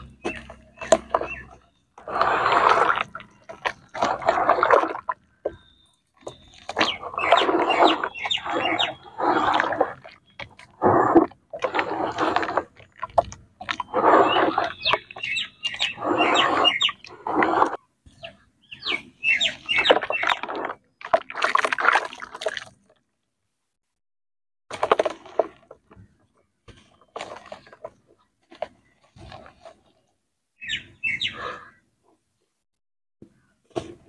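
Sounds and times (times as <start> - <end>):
hands squelching mud in water: 0.0 - 23.0, 24.7 - 30.0.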